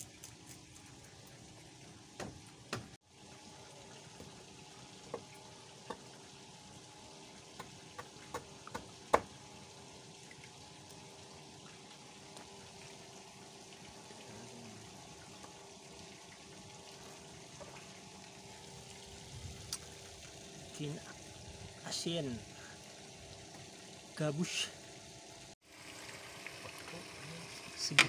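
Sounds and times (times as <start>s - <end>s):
faint hum: 0.0s - 25.5s
steady watery hiss: 3.2s - 28.0s.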